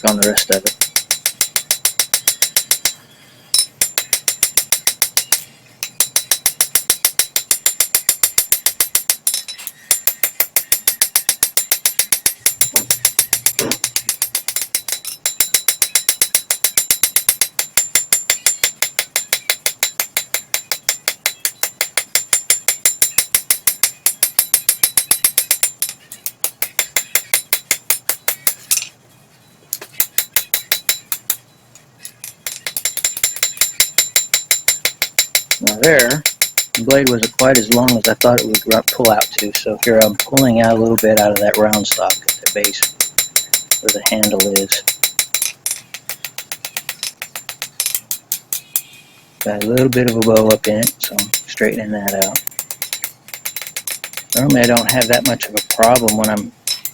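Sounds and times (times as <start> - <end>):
hammer striking hot steel on anvil: 0.0 - 28.9, 29.8 - 31.4, 32.0 - 56.9.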